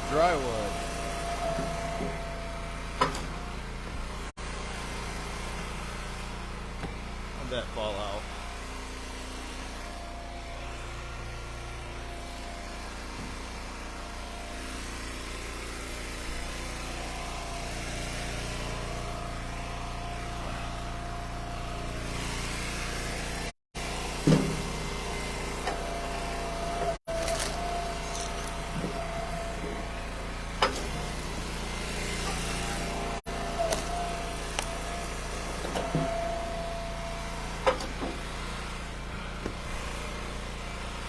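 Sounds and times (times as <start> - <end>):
log splitter engine running: 0.0 - 41.0.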